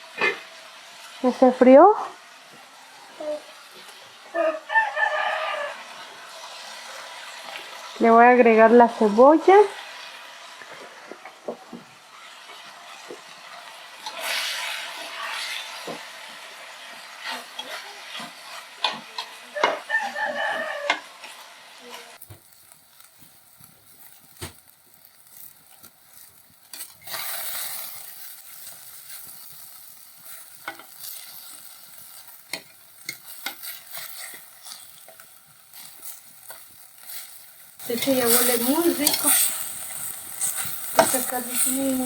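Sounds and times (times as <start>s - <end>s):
meat and onion sizzling in oil: 0.0s - 42.0s.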